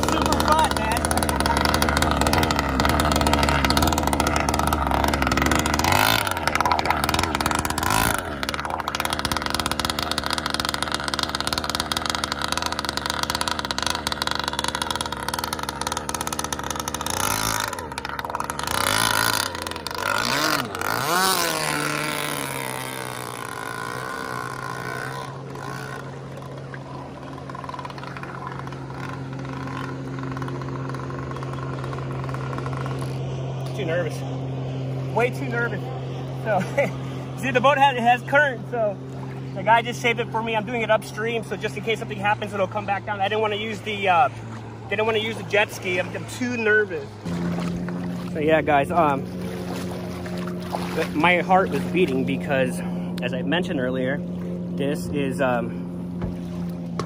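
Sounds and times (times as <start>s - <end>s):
boat engine idling and revving: 0.0s - 57.0s.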